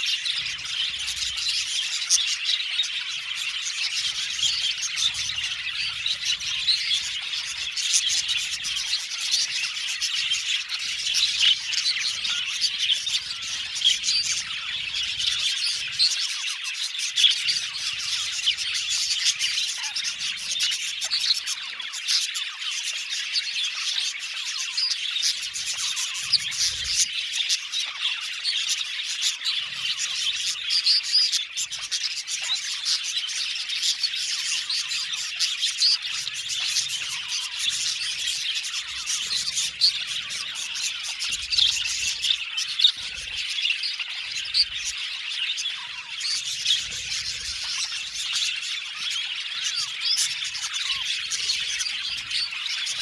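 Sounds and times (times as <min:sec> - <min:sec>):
bird squawks: 0:00.0 - 0:53.0
budgerigars chirping: 0:00.0 - 0:53.0.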